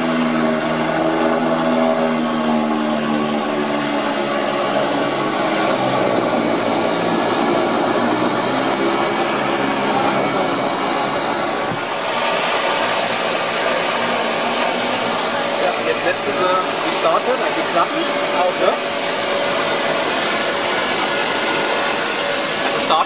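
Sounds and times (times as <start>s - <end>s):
high turbine whine: 0.0s - 23.0s
propeller plane engines running: 0.0s - 23.0s.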